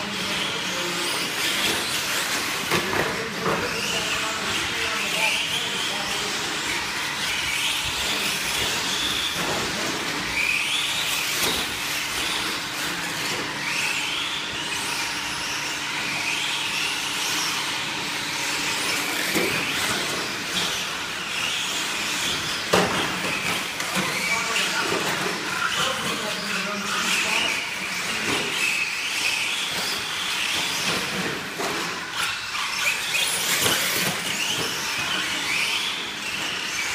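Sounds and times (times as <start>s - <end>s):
electric motors whining: 0.0s - 36.9s.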